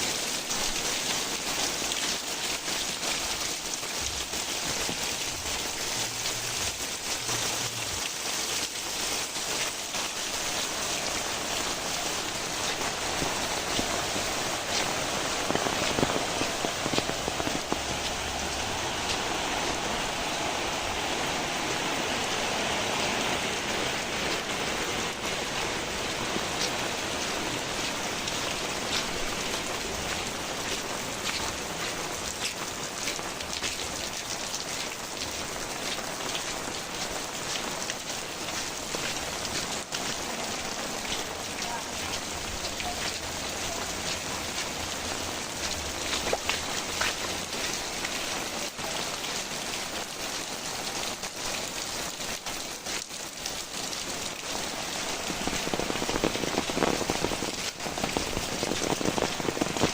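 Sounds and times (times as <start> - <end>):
heavy rain falling: 0.0 - 59.9
raindrops pattering on surfaces: 0.0 - 59.9.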